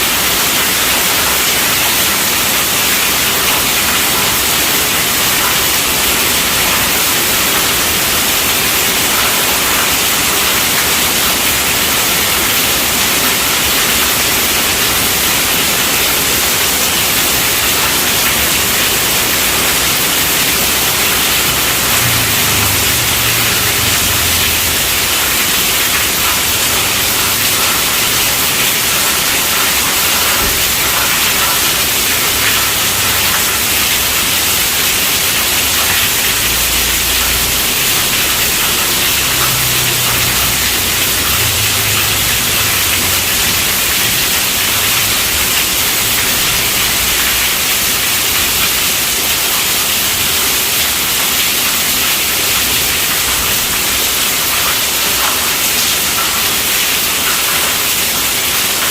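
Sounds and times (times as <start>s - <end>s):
heavy rain on tent roof: 0.0s - 58.9s.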